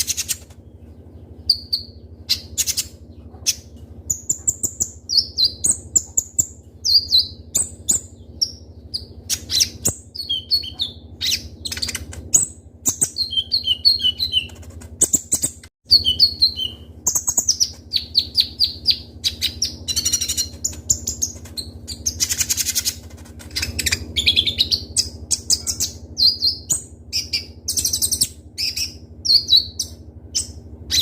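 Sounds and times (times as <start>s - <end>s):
sunbird singing: 0.0s - 31.0s.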